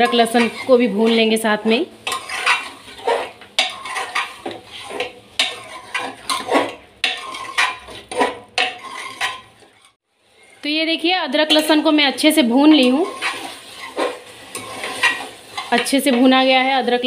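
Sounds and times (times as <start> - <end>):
meat frying: 0.0 - 17.0
metal spatula scraping pot: 0.0 - 17.0.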